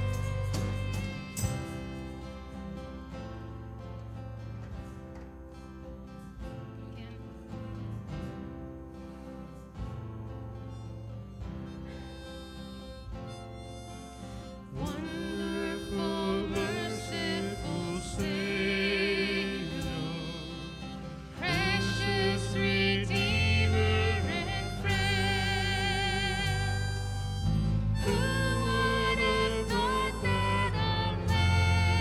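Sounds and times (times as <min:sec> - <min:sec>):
harmonica: 0:00.0 - 0:05.2, 0:08.9 - 0:32.0
acoustic guitar: 0:00.0 - 0:32.0
worship band playing slow song: 0:00.0 - 0:32.0.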